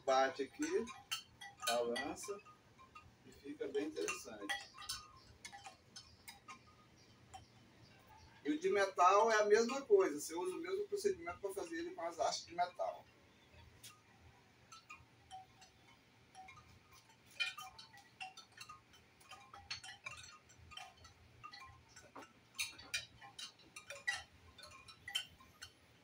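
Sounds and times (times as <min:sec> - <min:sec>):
wind chimes clinking: 0:00.0 - 0:26.0.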